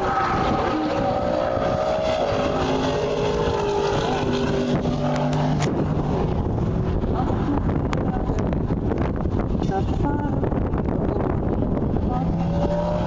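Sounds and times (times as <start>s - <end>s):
race car engine at full throttle: 0.0s - 13.0s
wind buffeting microphone: 0.0s - 13.0s.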